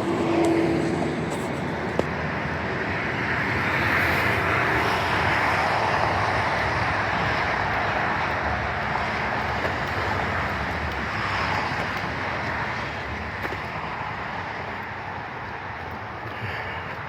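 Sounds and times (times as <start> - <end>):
highway traffic rushing: 0.0 - 17.0.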